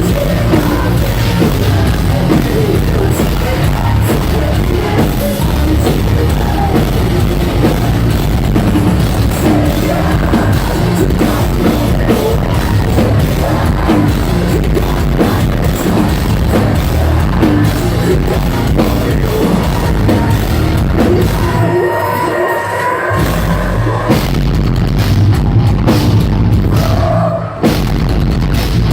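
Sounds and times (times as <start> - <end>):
pounding drums: 0.0 - 21.7, 23.2 - 28.9
sung and shouted vocals: 0.0 - 24.5, 25.4 - 28.0
distorted guitars: 0.0 - 28.9.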